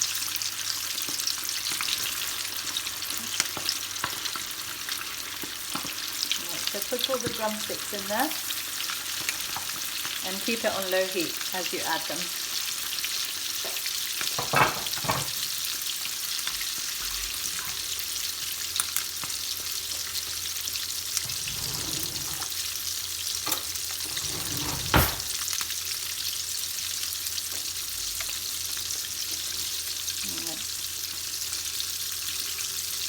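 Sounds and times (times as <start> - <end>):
chicken sizzling in hot oil: 0.0 - 21.2, 22.4 - 24.0, 25.3 - 33.0.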